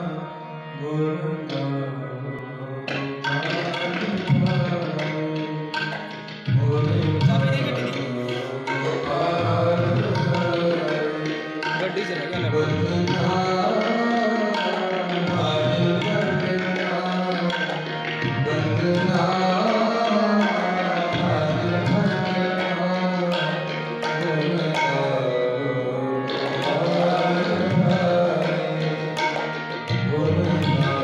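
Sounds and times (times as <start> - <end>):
harmonium chords: 0.0 - 31.0
tabla strokes: 2.9 - 31.0.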